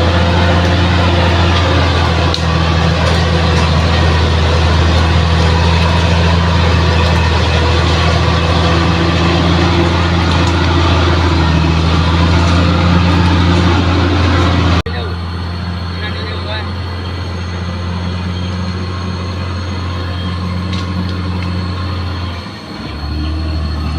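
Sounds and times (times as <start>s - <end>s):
bulldozer diesel engine drone: 0.0s - 23.9s.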